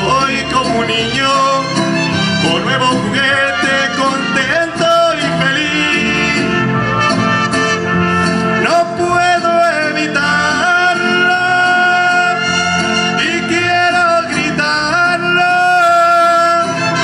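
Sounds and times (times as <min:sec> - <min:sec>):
steady musical accompaniment: 0:00.0 - 0:15.4
mariachi trumpets: 0:00.0 - 0:17.0.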